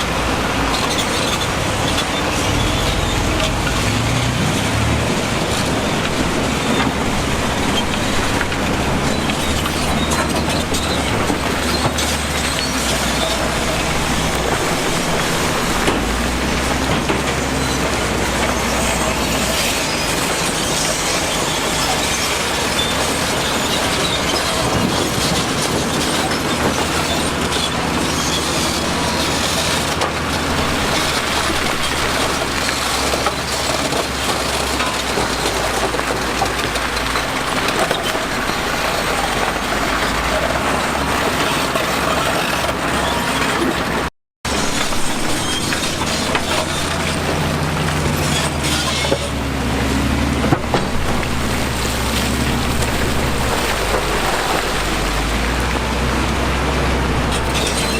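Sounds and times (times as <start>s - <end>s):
diesel machinery engines running: 0.0s - 57.9s.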